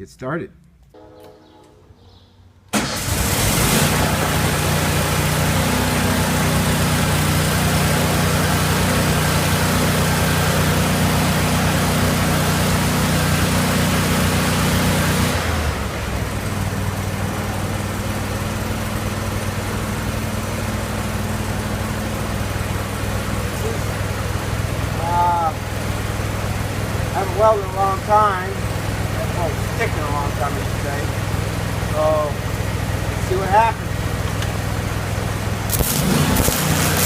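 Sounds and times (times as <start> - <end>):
generator engine running: 2.7 - 37.0.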